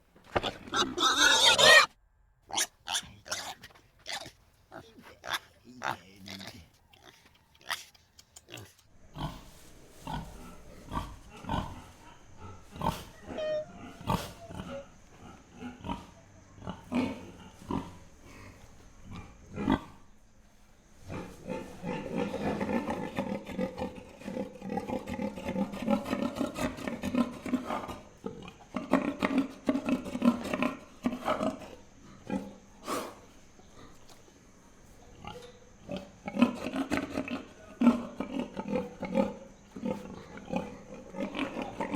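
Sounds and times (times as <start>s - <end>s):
pigs grunting: 0.3s - 20.2s, 21.0s - 41.9s.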